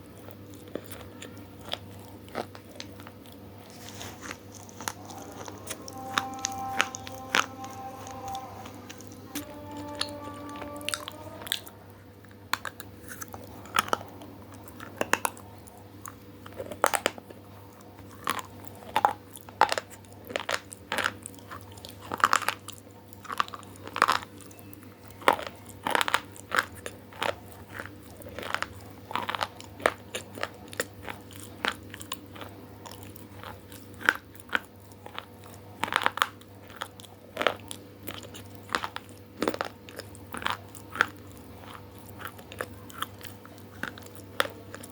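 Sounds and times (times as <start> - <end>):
person chewing crisp food: 0.0 - 44.9.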